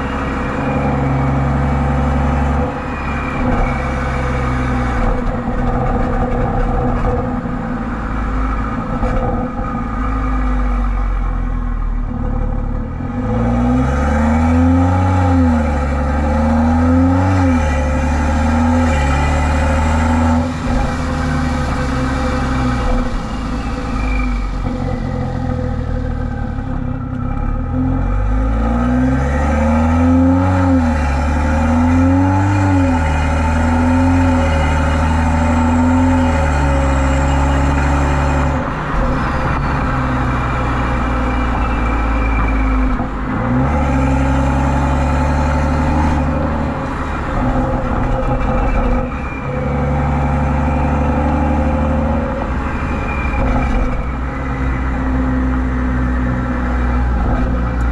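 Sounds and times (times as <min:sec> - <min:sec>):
car exhaust droning: 0:00.0 - 0:57.9.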